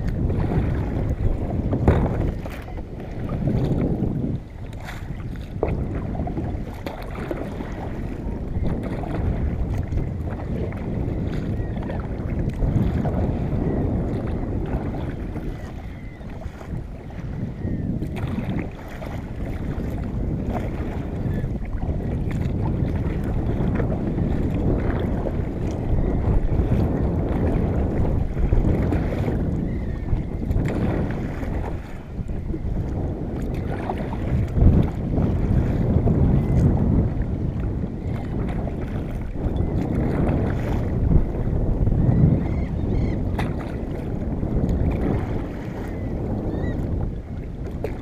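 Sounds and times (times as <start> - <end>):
water lapping around hull: 0.0 - 48.0
wind rumbling on microphone: 0.0 - 48.0.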